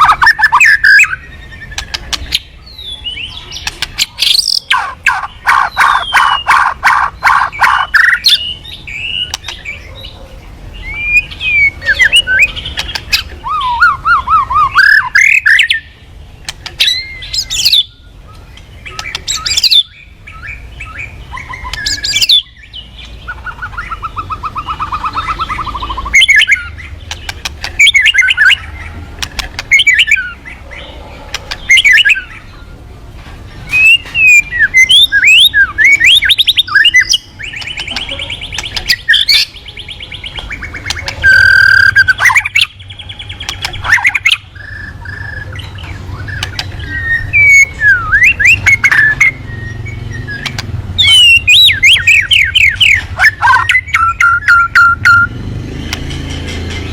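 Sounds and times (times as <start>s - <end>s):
songbird singing varied song: 0.0s - 32.8s, 33.6s - 56.9s.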